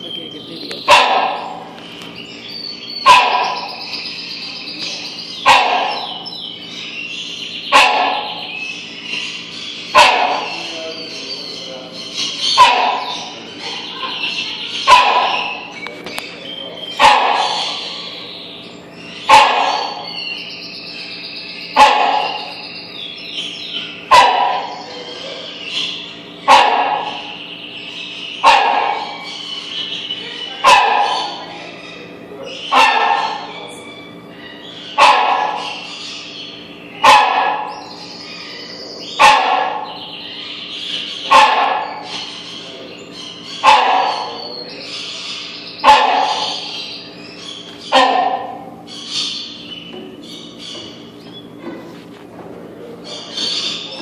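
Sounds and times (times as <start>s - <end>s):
hornbill barking: 0.0s - 54.0s.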